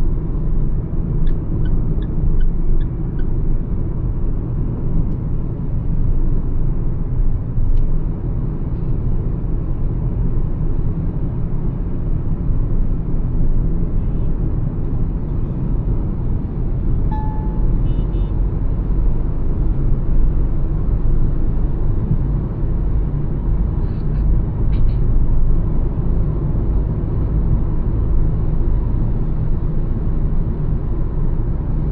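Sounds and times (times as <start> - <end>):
car engine and road noise: 0.0 - 31.9.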